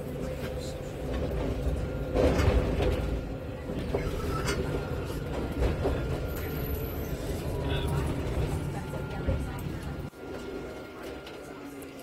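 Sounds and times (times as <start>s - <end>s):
tram interior hum and rumble: 0.0s - 12.0s.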